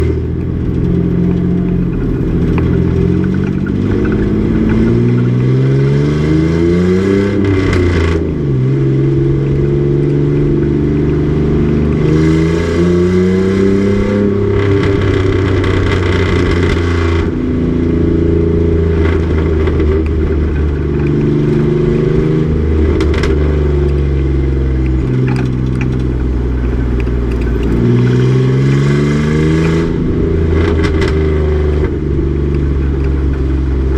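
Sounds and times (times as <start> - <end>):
race truck engine shifting gears: 0.0 - 33.9.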